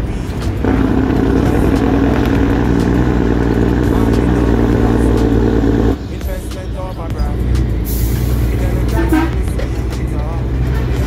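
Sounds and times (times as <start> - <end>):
truck engine drone from cab: 0.0 - 11.0.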